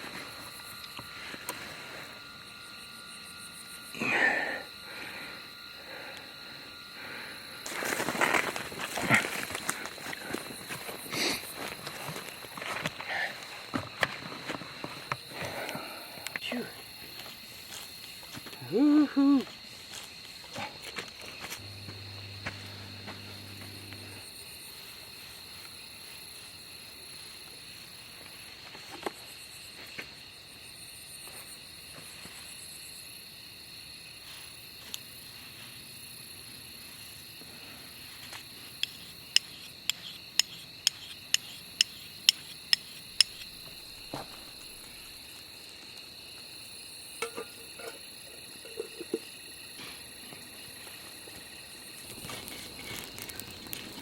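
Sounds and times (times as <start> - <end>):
night insect chorus: 0.0 - 54.0.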